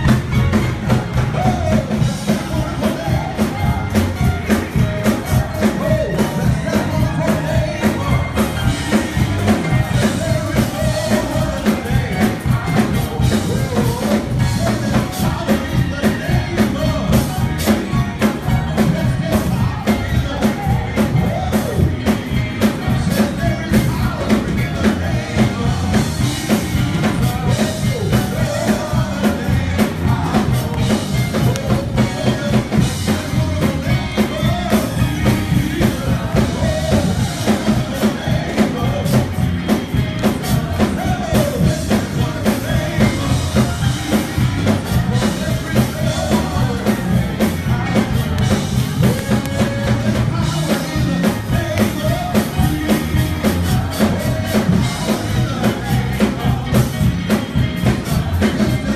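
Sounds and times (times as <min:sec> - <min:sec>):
amplified band playing: 0:00.0 - 0:58.9
drums keeping a steady beat: 0:00.0 - 0:58.9
group singing into microphones: 0:00.0 - 0:58.9.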